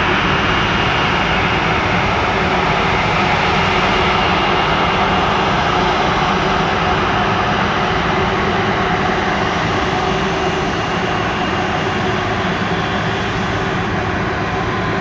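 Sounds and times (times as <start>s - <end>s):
jet engines whine and rumble: 0.0s - 15.0s.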